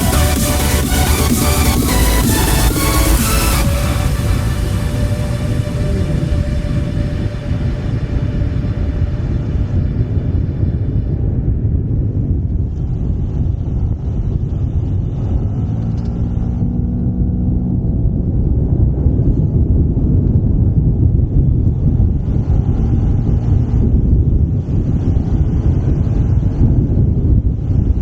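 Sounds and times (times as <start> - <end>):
wind buffeting microphone: 3.6 - 28.0.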